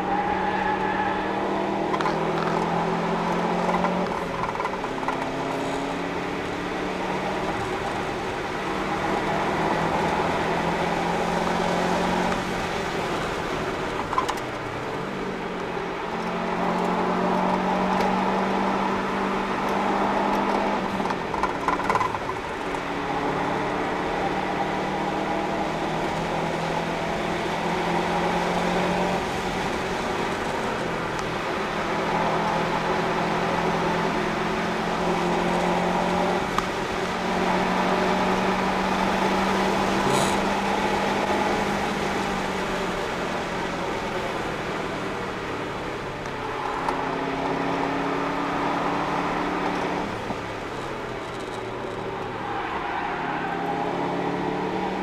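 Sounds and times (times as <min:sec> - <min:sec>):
car engine revving: 0:00.0 - 0:55.0
tyre and road noise: 0:00.0 - 0:55.0.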